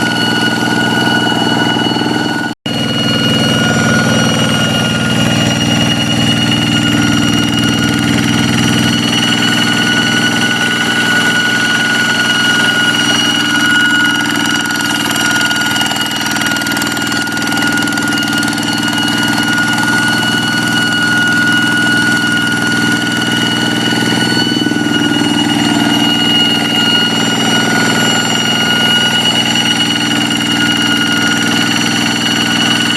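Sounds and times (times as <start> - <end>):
diesel engine running: 0.0 - 32.9
high-pitched whine: 0.0 - 32.9.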